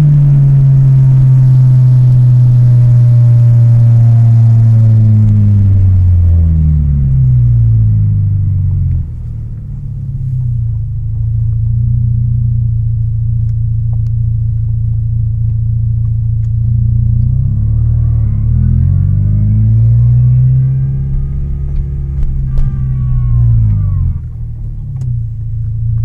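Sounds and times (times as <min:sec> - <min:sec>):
car engine revving and idling: 0:00.0 - 0:26.0.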